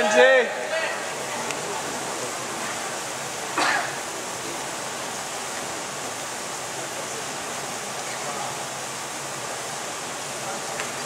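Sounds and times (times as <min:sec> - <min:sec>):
swimming pool hall hiss: 0:00.0 - 0:11.0.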